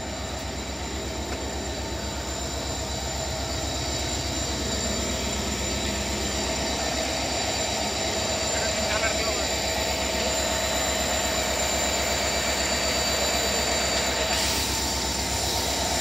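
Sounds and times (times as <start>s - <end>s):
locomotive engine drone: 0.0s - 16.0s.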